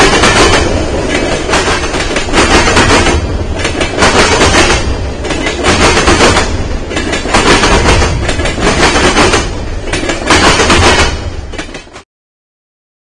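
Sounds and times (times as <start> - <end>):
train cars rolling past: 0.0 - 12.0.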